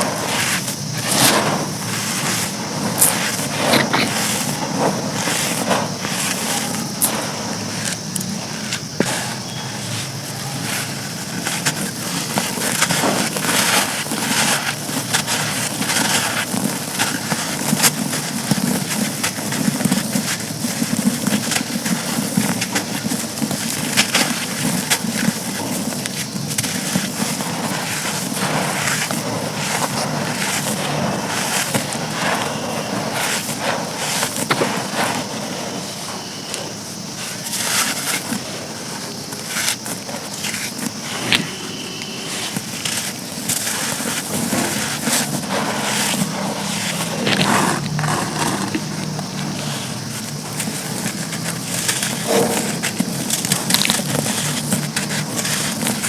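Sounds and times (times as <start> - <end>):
charcoal being crushed: 0.0 - 56.0.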